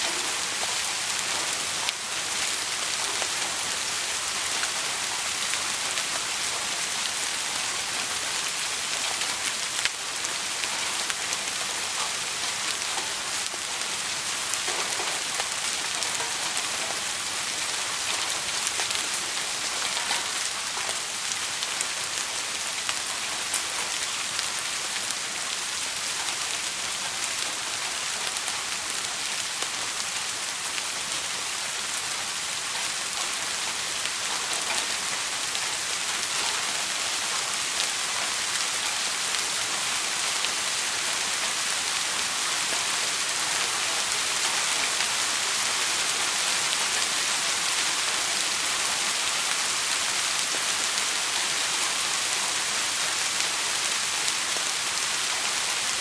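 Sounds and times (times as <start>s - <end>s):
steady rain hiss: 0.0s - 56.0s
faint raindrop ticks: 4.4s - 31.2s, 32.6s - 55.7s.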